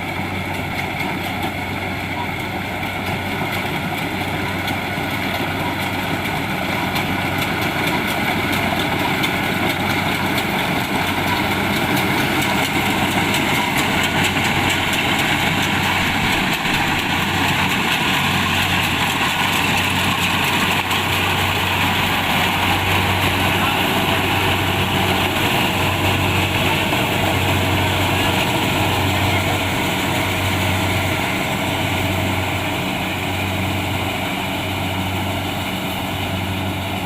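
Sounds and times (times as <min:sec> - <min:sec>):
combine harvester diesel engine: 0:00.0 - 0:37.0
machinery rattling: 0:00.0 - 0:37.0.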